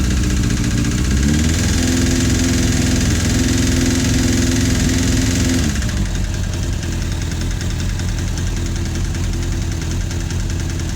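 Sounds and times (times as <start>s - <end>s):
fast clicking from engine: 0.0s - 10.9s
motorcycle engine idling: 0.0s - 10.9s.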